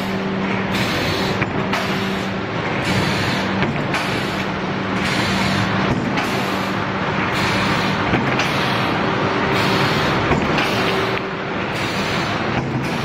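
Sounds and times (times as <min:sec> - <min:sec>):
loud machinery hiss: 0:00.0 - 0:13.0.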